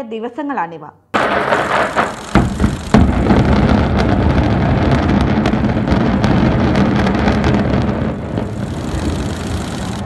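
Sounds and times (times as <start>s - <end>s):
building collapsing rumble: 1.2s - 10.0s
sharp cracks: 1.2s - 10.0s.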